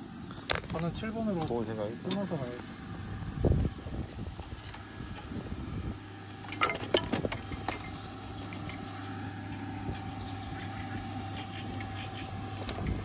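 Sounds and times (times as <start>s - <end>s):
golf cart humming: 0.0s - 13.0s.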